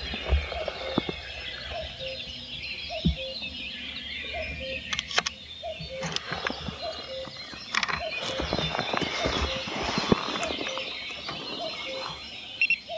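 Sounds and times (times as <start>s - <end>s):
birds singing: 0.0s - 12.9s.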